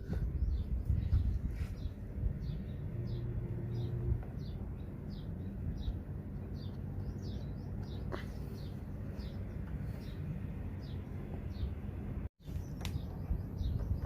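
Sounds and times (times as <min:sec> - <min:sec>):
small bird chirping: 0:00.0 - 0:14.0.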